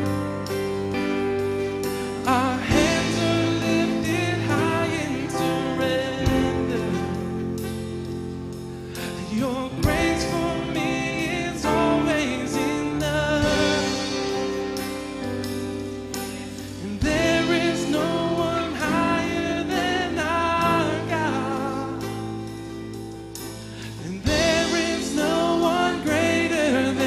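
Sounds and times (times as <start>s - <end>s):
guitars strumming chords: 0.0s - 27.0s.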